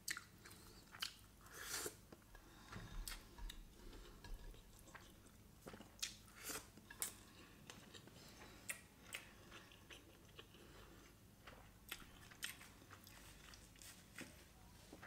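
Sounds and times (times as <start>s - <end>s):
faint chewing with mouth clicks: 0.0s - 15.0s.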